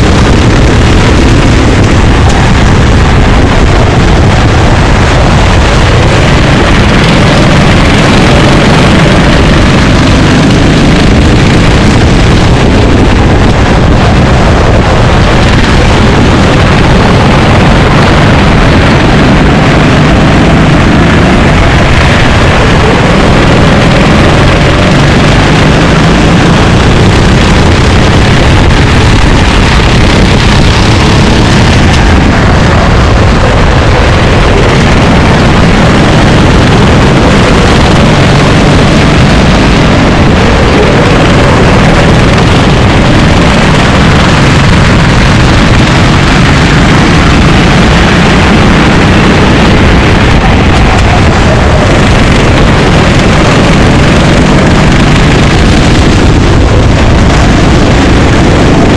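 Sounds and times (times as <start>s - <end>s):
kart engines racing: 0.0s - 58.9s.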